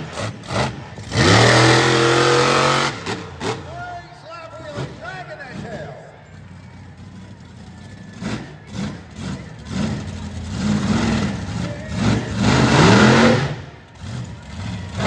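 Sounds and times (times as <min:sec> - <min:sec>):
truck engine revving: 0:00.0 - 0:03.8, 0:04.5 - 0:15.0.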